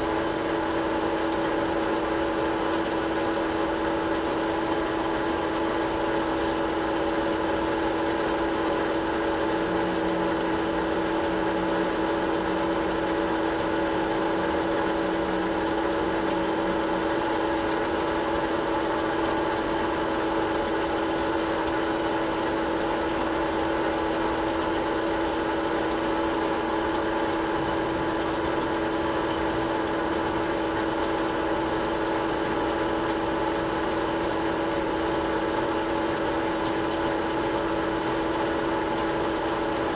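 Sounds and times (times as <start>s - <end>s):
metal lathe humming: 0.0s - 39.9s.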